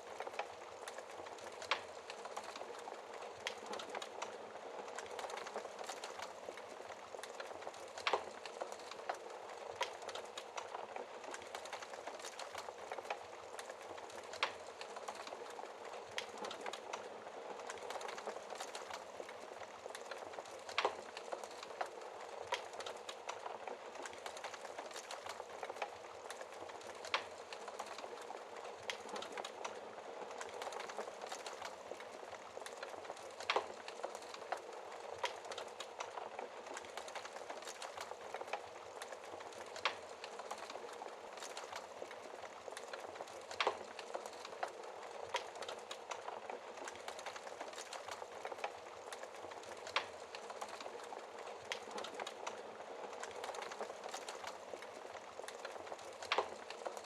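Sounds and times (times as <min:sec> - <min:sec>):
fire hissing and crackling: 0:00.0 - 0:57.0
fire popping: 0:00.0 - 0:57.0.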